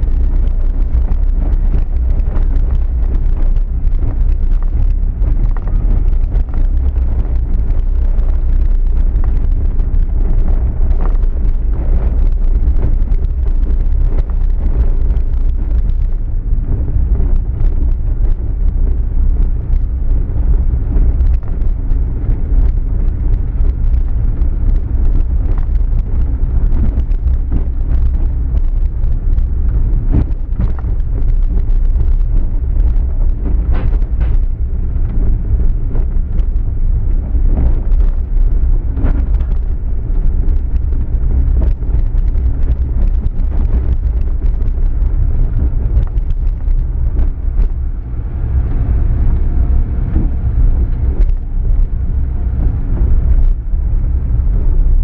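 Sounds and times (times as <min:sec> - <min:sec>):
road and wind rumble: 0:00.0 - 0:55.0.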